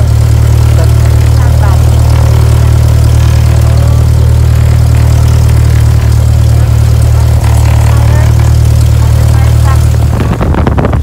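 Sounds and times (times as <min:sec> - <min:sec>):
airplane engine and propeller: 0:00.0 - 0:11.0.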